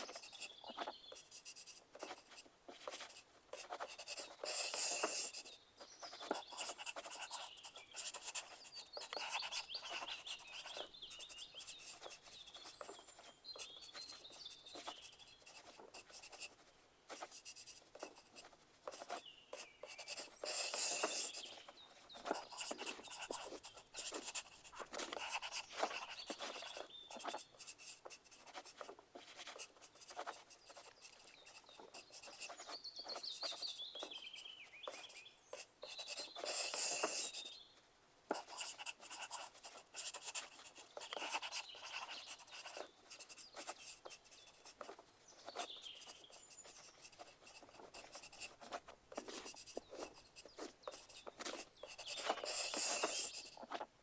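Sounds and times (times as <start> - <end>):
pencils scratching on paper: 0.0 - 37.6, 38.3 - 53.9.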